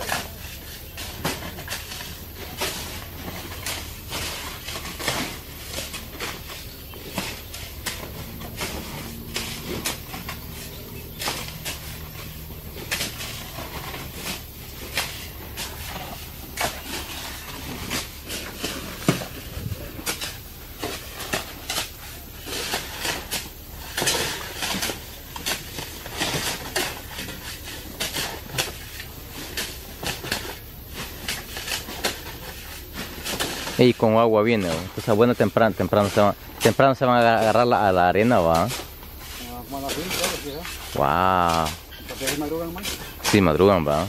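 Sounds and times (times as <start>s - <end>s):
shovels scraping sand on truck bed: 0.0s - 44.0s.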